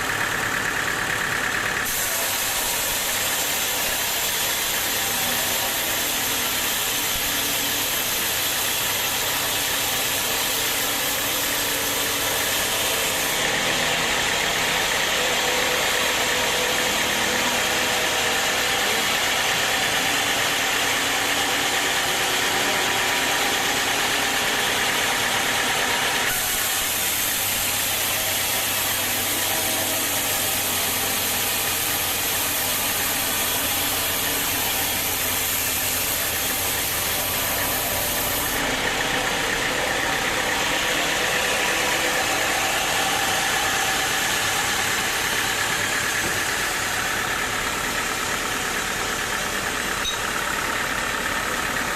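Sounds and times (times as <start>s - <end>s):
sawmill machinery humming: 0.0s - 51.9s
saw cutting wood: 1.8s - 51.9s.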